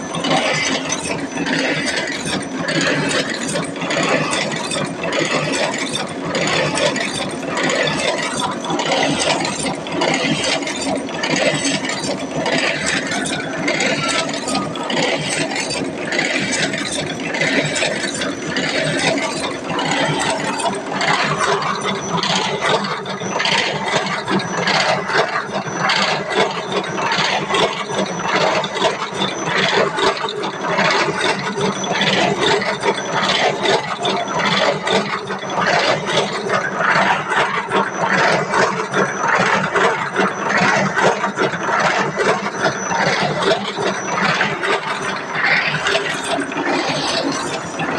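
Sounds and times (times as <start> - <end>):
machine mechanical hum: 0.0 - 47.9
rapid clatter of clicks: 0.0 - 47.9.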